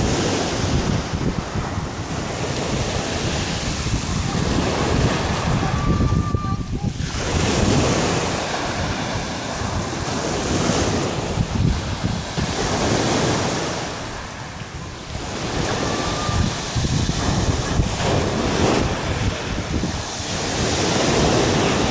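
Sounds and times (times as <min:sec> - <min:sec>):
waves washing up pebble beach: 0:00.0 - 0:21.9
wind buffeting microphone: 0:00.0 - 0:21.9.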